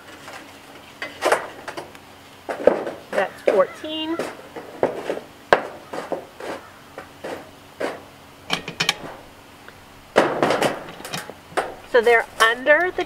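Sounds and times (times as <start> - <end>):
charcoal clattering: 0.0 - 9.3, 10.0 - 13.0
metal tongs scraping charcoal: 0.0 - 9.3, 10.4 - 13.0.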